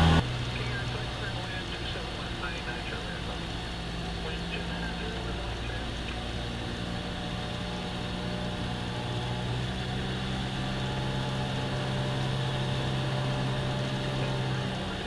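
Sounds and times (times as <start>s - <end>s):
aircraft engine and propeller drone: 0.0s - 15.0s.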